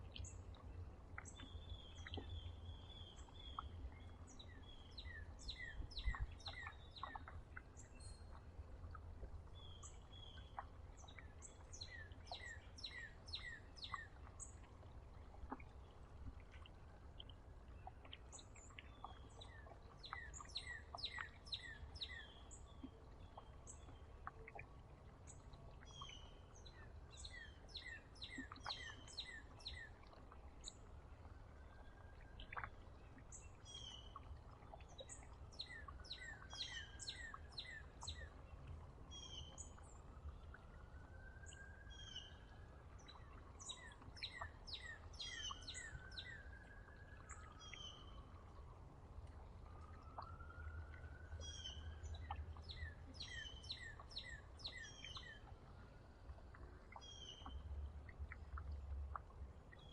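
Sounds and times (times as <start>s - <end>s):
small songbirds chirping: 0.0s - 48.6s, 49.8s - 59.9s
faint low rumble: 0.0s - 59.9s.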